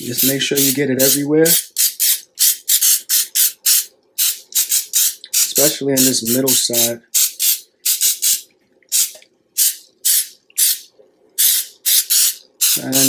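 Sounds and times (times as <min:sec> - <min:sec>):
aerosol spray hissing spurts: 0:00.1 - 0:05.7, 0:07.2 - 0:10.8, 0:11.4 - 0:13.0.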